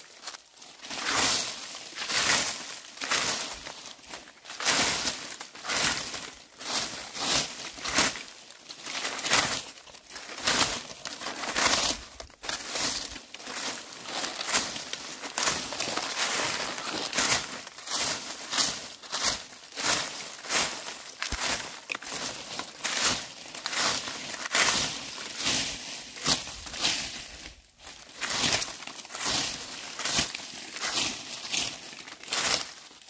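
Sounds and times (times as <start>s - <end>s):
dry leaves being swept: 0.0s - 33.0s.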